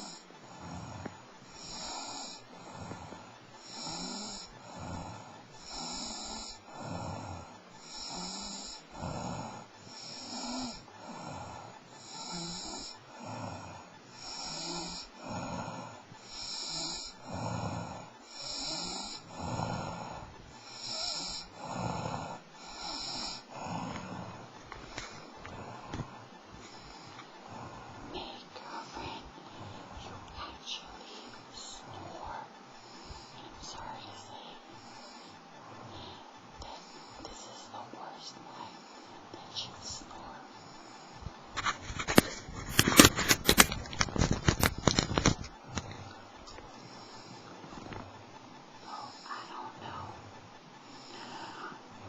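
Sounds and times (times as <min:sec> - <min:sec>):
person snoring: 0:00.0 - 0:48.1, 0:48.8 - 0:50.2, 0:50.8 - 0:52.0.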